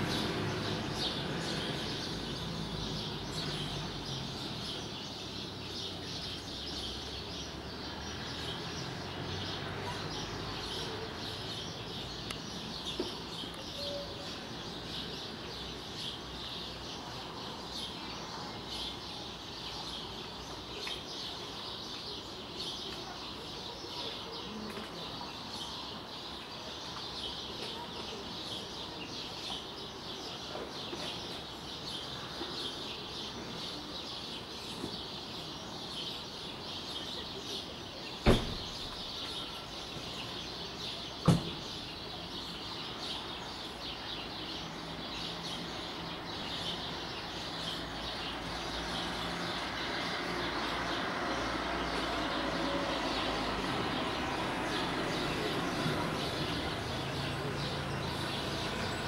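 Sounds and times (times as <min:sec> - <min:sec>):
birds chirping in chorus: 0:00.0 - 0:59.0.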